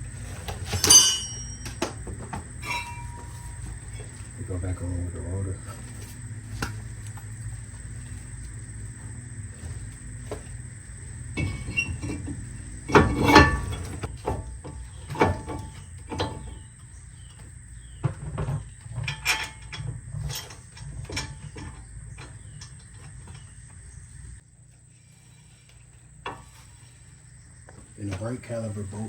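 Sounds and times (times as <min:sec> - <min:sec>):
brake rotor metal clanks: 0:00.0 - 0:29.0.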